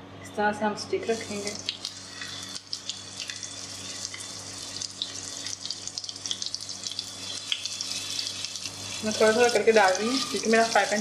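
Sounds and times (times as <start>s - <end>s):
kebabs sizzling in hot oil: 1.0s - 11.0s.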